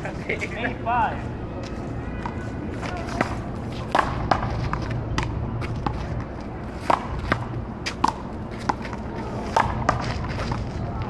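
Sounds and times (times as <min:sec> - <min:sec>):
footsteps shuffling on court: 0:00.0 - 0:11.0
low background hum: 0:00.0 - 0:11.0.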